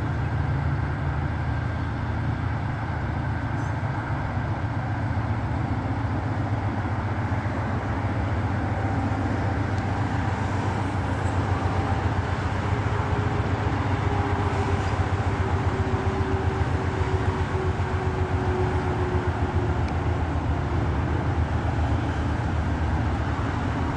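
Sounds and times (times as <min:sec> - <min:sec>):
train rumbling: 0:00.0 - 0:23.9.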